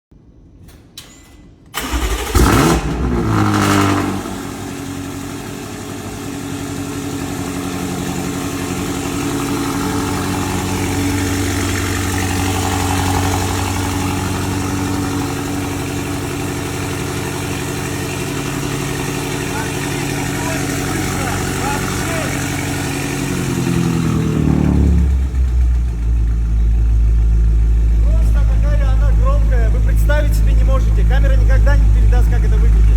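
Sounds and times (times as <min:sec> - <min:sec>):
car engine starting and idling: 0:00.5 - 0:32.9.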